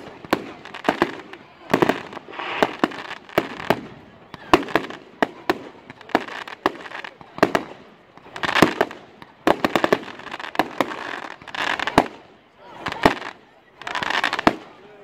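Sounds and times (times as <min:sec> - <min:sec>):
fireworks bangs: 0:00.0 - 0:14.8
fireworks crackling hiss: 0:00.0 - 0:14.8.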